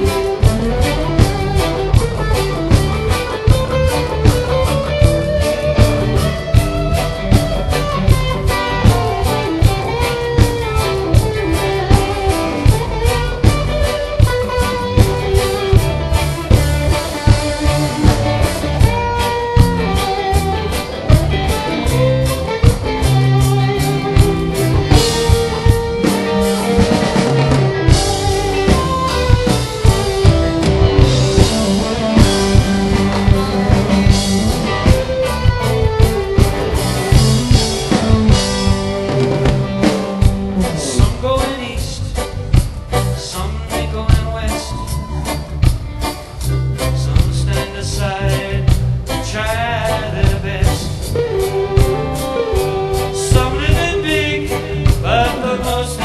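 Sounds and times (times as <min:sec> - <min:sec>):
reggae band playing: 0:00.0 - 0:56.0.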